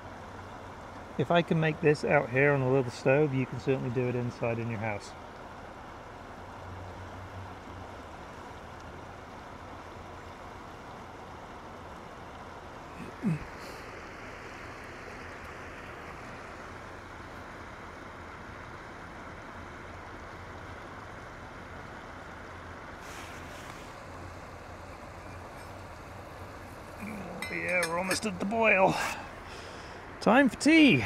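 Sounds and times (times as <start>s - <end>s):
river flowing over rocks: 0.0s - 31.0s.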